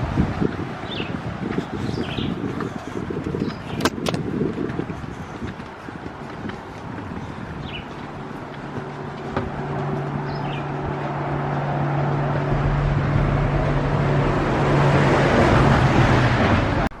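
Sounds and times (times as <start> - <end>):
vehicle engine and tyre noise: 0.0 - 17.0.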